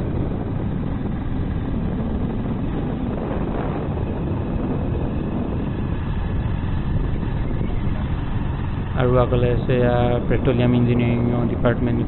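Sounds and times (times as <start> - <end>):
moving vehicle rumble: 0.0 - 12.0
wind buffeting microphone: 0.0 - 12.0.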